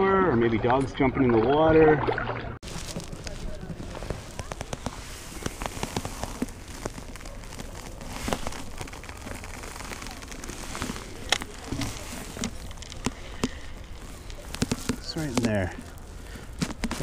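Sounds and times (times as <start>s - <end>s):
light rain pattering on jacket: 2.6s - 17.0s.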